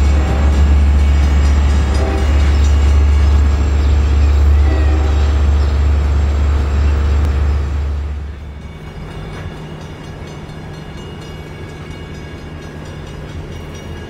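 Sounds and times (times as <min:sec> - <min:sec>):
diesel locomotive rumbling: 0:00.0 - 0:14.0
train wheels on track: 0:00.0 - 0:14.0.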